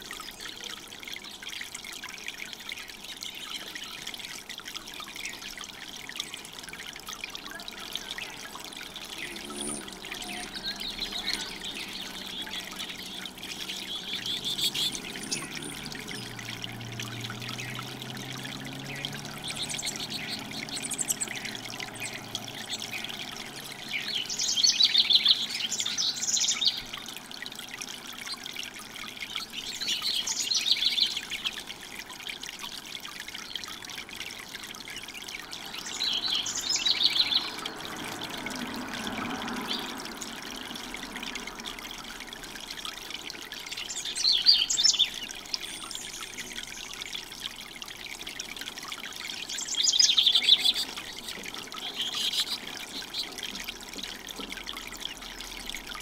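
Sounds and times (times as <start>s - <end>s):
fountain trickling and splashing: 0.0s - 56.0s
high warbling bird song: 0.0s - 56.0s.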